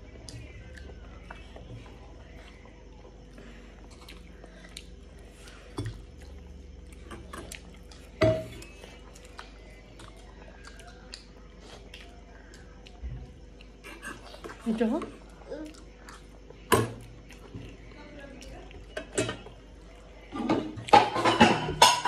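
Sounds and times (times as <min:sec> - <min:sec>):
chewing food: 0:00.0 - 0:21.2.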